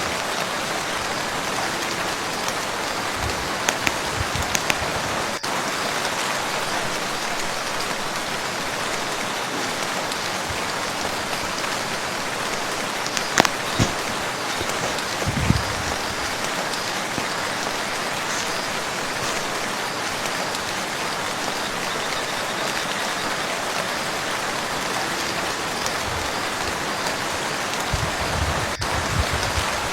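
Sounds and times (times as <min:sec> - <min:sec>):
rain falling on a lake: 0:00.0 - 0:29.9.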